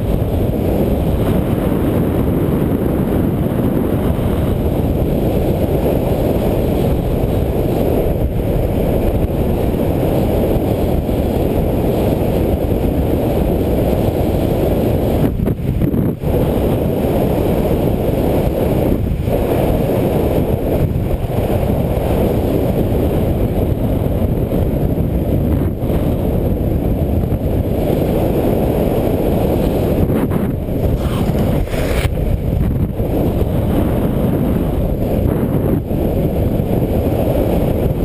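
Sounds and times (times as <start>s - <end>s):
wind rumbling over microphone: 0.0s - 38.0s.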